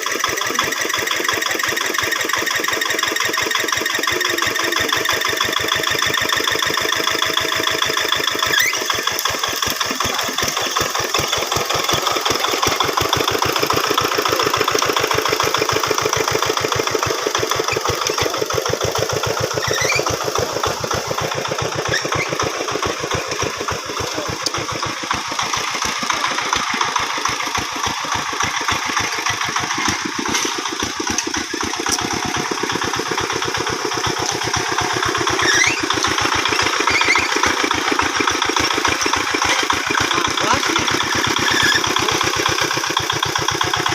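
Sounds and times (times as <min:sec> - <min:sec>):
hand tractor engine chugging: 0:00.0 - 0:43.9.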